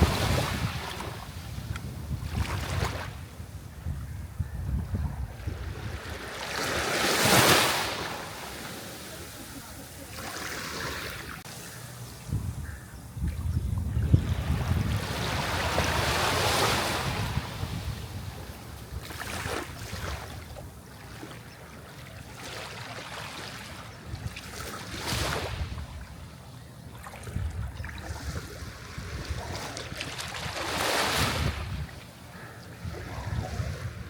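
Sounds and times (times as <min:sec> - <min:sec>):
sea waves breaking: 0:00.0 - 0:03.3, 0:05.4 - 0:12.1, 0:14.2 - 0:25.7, 0:28.0 - 0:34.0.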